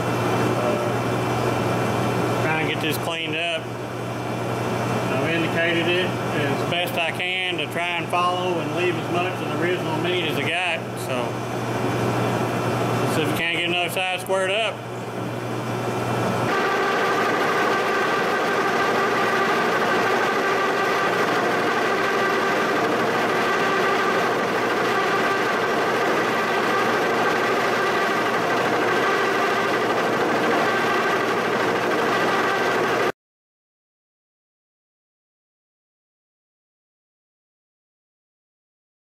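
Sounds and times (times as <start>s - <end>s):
machine whine: 0.0s - 33.2s.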